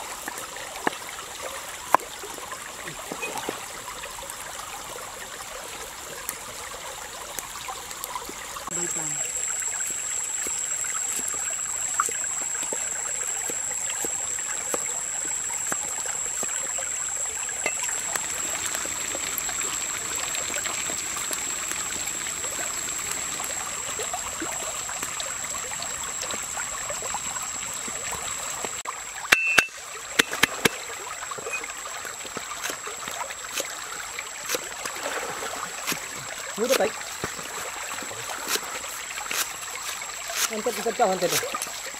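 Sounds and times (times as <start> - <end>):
oil sizzling: 4.7 - 41.9.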